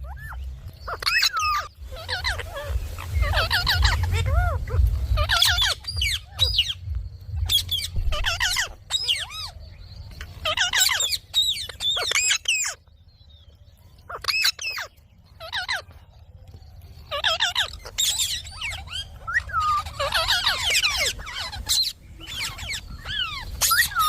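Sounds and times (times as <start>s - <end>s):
parakeet squawking: 0.0s - 12.8s, 14.1s - 16.0s, 17.0s - 24.0s.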